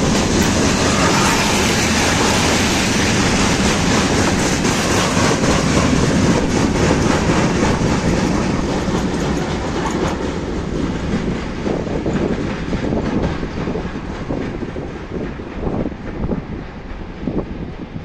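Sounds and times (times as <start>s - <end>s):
train wheels clacking over rail joints: 0.0s - 17.9s.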